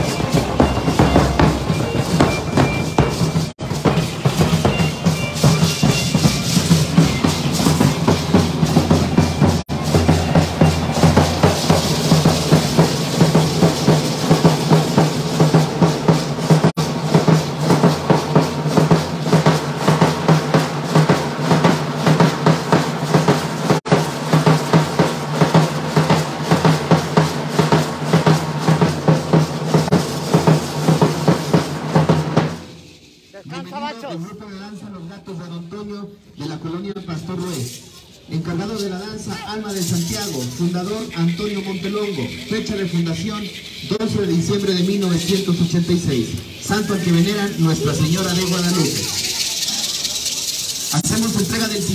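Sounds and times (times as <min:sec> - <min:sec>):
drums beating fast dance rhythm: 0:00.0 - 0:34.1, 0:39.4 - 0:51.9.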